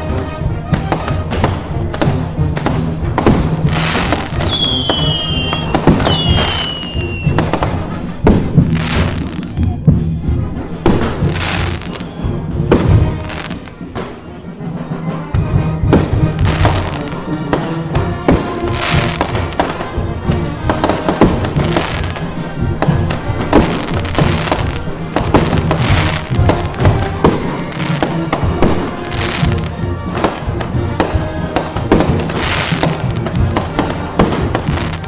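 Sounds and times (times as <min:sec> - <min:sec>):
loud festival music: 0:00.0 - 0:35.0.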